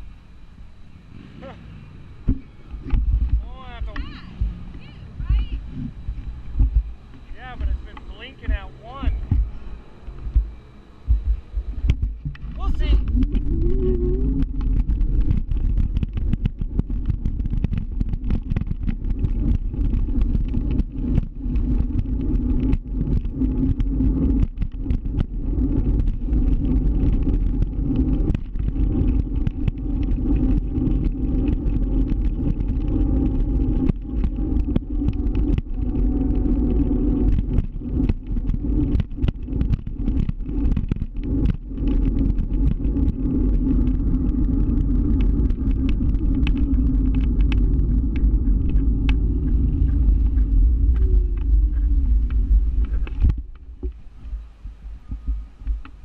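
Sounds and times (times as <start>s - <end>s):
electric scooter hum: 0.0s - 56.0s
wind and road noise rumble: 0.0s - 56.0s.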